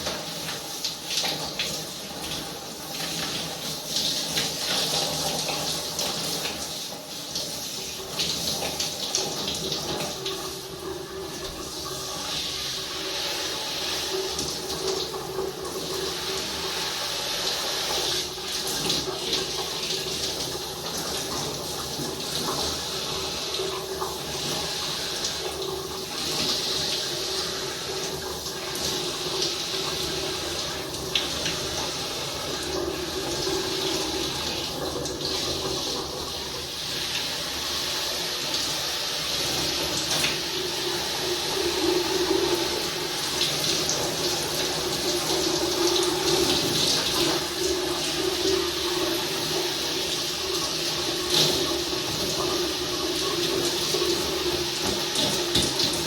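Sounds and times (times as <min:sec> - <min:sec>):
running tap water: 0:00.0 - 0:56.0.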